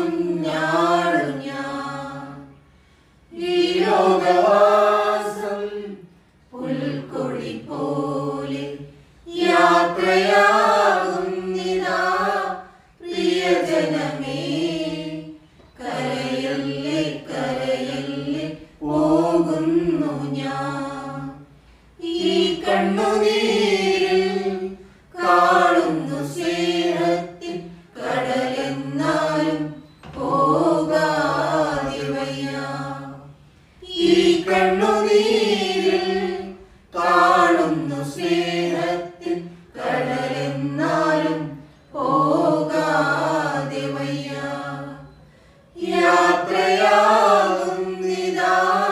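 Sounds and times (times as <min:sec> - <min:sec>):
choir singing a hymn unaccompanied: 0:00.0 - 0:02.6, 0:03.3 - 0:48.9.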